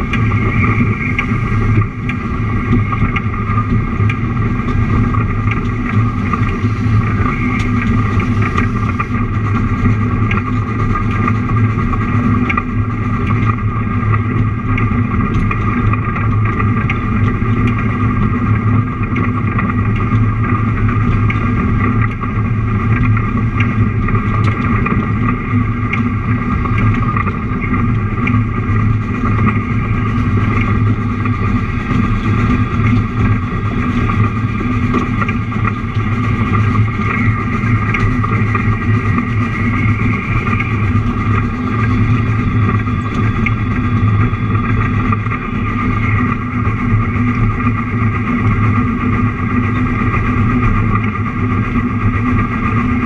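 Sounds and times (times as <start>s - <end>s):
train running along track: 0.0s - 53.0s.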